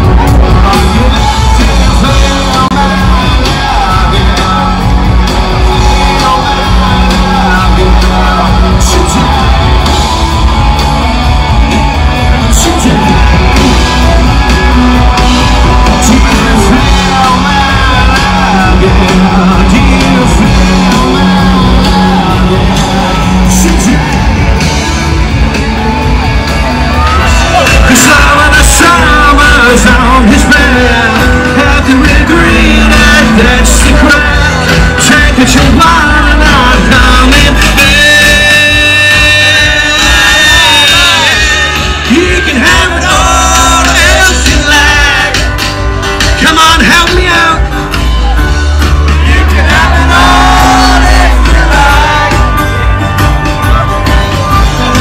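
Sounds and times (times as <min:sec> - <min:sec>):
lead singer singing: 0:00.0 - 0:55.0
live rock band playing: 0:00.0 - 0:55.0.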